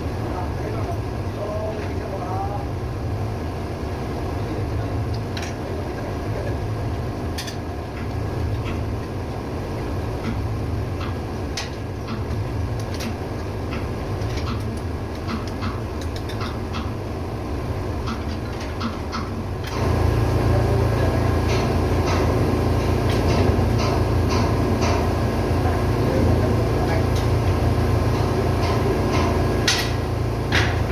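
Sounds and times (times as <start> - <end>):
engine-room machinery drone: 0.0 - 30.9.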